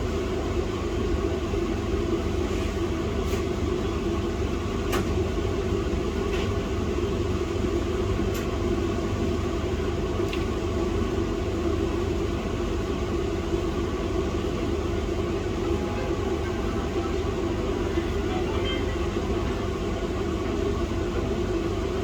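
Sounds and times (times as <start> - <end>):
machine hum with low rumble: 0.0 - 22.0.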